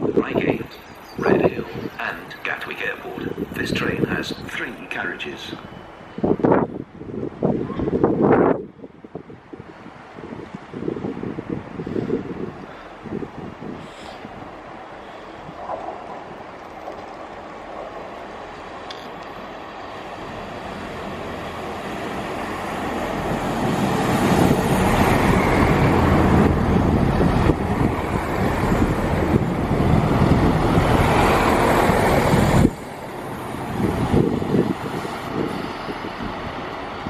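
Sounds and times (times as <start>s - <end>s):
diesel train passing: 0.0s - 37.0s.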